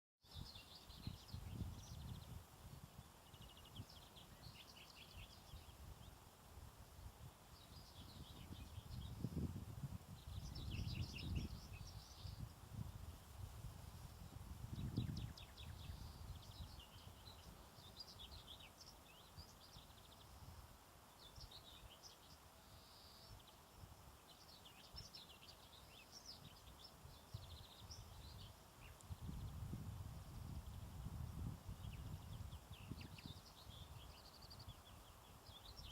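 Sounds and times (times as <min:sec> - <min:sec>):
small birds chirping: 0:00.2 - 0:35.9.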